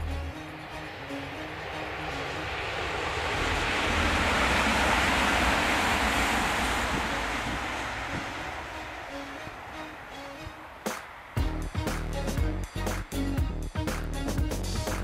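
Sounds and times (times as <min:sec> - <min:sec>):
wind buffeting microphone: 0:00.0 - 0:12.6
train passing rumble: 0:00.0 - 0:15.0.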